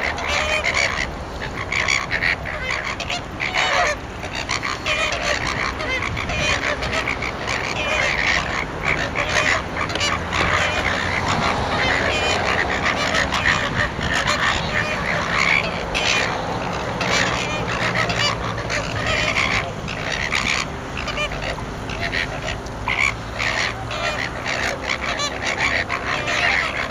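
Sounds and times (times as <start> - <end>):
flamingos honking: 0.0 - 26.9.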